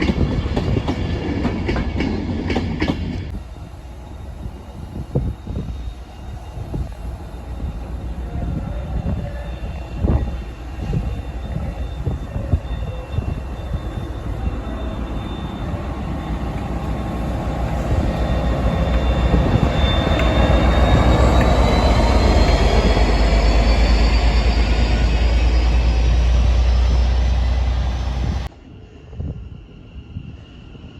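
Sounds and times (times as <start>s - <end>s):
train rumbling past: 0.0s - 30.8s
faint high whine: 3.3s - 30.9s.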